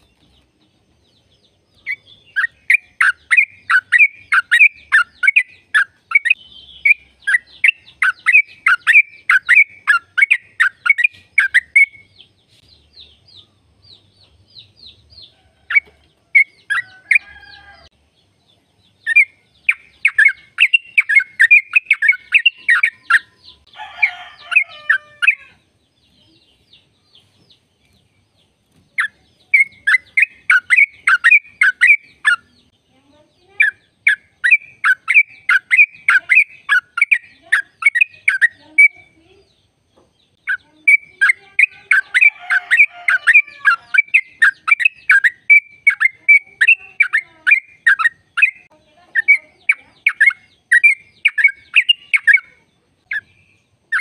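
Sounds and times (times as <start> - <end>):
bird rapid rolling song: 0.0 - 54.0.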